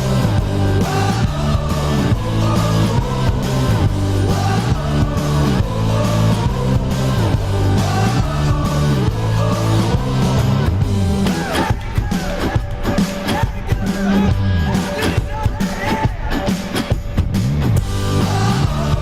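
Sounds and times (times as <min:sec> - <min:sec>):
loud rock song: 0:00.0 - 0:19.0.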